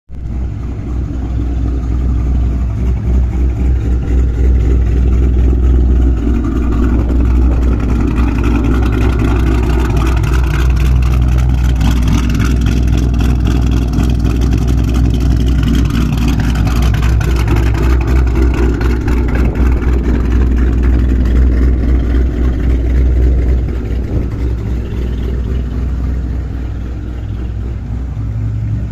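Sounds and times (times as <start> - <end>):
car engine idling loudly: 0.1 - 28.9.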